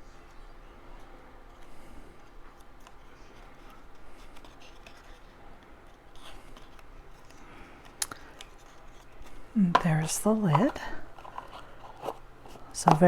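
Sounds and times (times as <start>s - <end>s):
cardstock rustling and rubbing: 0.8s - 13.0s.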